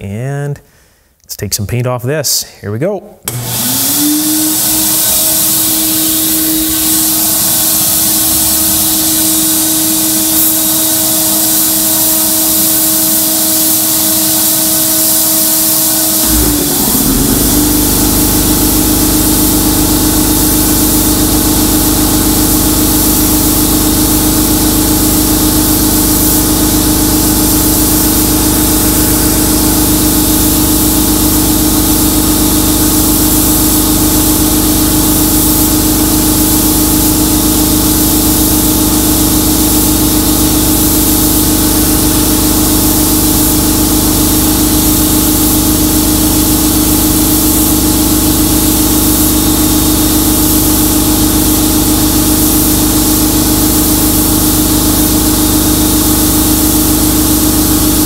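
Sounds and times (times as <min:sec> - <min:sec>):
steady machine hum: 0:03.2 - 0:58.0
blast gun hissing: 0:04.6 - 0:52.8.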